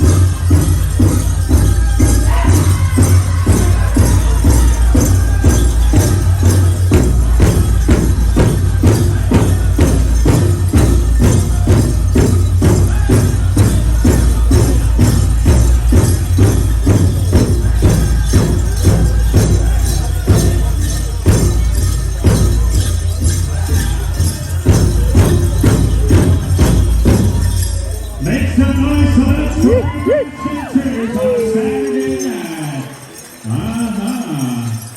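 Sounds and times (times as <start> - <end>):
drum beating steadily: 0.0 - 34.9
jingling shimmer: 0.0 - 34.9.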